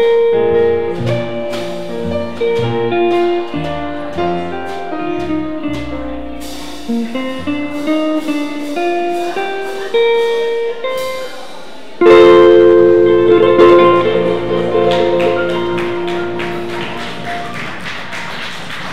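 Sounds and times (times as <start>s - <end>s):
jazz band playing: 0.0s - 11.3s, 12.0s - 18.5s.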